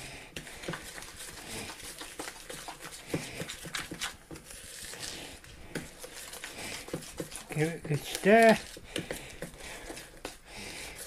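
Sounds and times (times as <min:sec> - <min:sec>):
spoon scraping in plastic bowl: 0:00.4 - 0:11.0.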